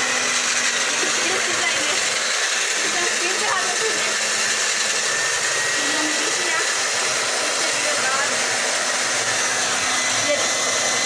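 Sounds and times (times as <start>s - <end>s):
electric cloth cutter motor: 0.0s - 11.0s.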